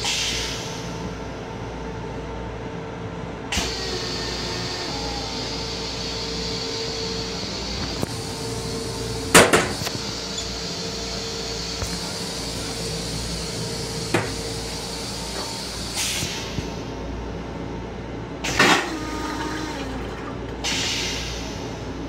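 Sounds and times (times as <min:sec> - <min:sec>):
railcar hum and rumble: 0:00.0 - 0:22.0.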